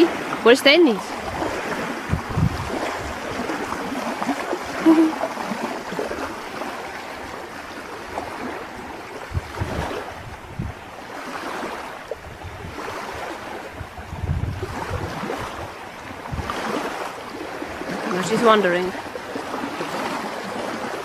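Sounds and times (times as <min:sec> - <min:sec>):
wind buffeting microphone: 0:00.0 - 0:06.4, 0:08.1 - 0:21.0
small waves lapping on shore: 0:00.0 - 0:21.0.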